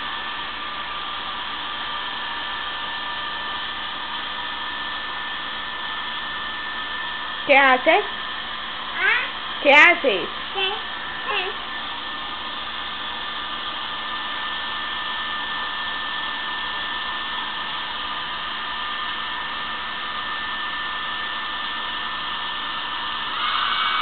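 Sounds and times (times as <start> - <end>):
hair dryer blowing: 0.0 - 24.0.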